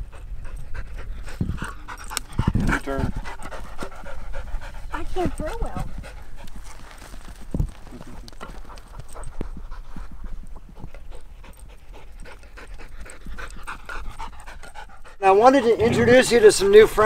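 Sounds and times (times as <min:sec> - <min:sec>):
dog panting: 0:00.0 - 0:07.3, 0:08.3 - 0:17.0.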